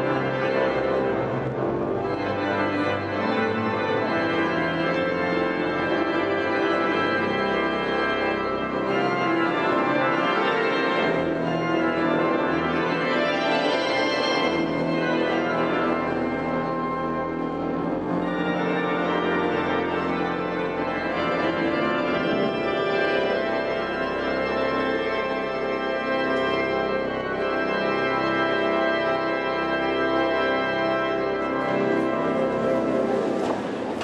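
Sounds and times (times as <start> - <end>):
pipe organ chords: 0.0 - 34.0.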